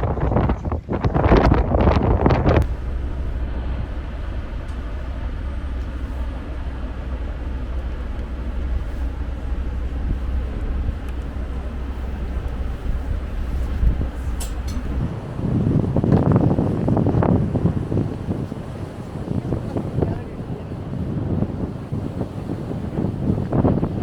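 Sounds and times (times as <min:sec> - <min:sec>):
vehicle rumbling in motion: 0:00.0 - 0:24.0
wind buffeting microphone: 0:00.0 - 0:24.0.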